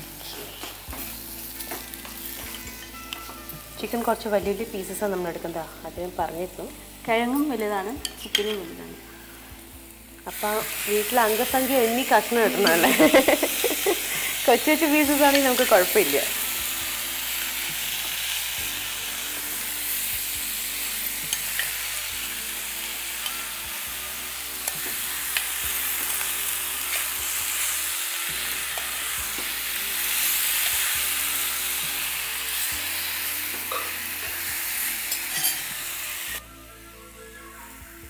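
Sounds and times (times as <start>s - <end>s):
food sizzling in a pan: 0.0s - 38.0s
soft background music: 0.0s - 38.0s.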